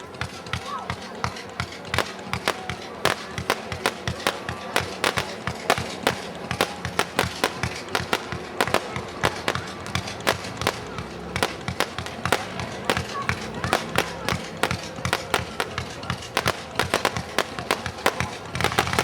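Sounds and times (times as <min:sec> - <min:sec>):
fireworks popping and banging: 0:00.0 - 0:19.0.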